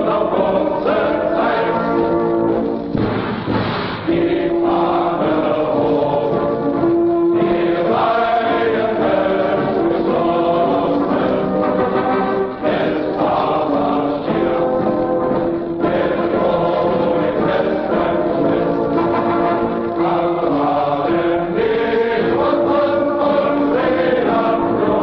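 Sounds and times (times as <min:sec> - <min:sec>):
choir singing long notes: 0:00.0 - 0:03.0, 0:04.0 - 0:25.0.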